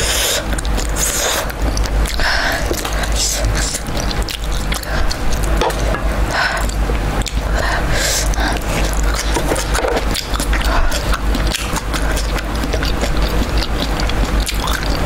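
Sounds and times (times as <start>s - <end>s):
wet chewing and mouth smacking: 0.0s - 15.0s.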